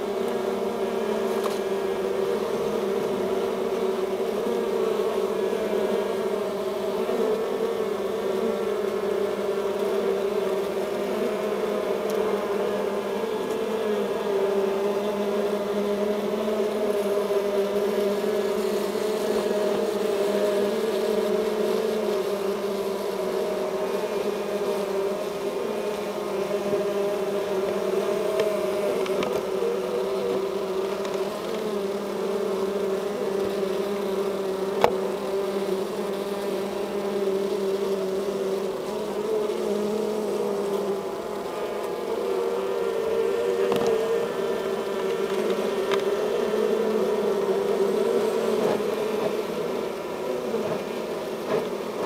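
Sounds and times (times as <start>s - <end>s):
bees buzzing in hive: 0.0s - 52.0s.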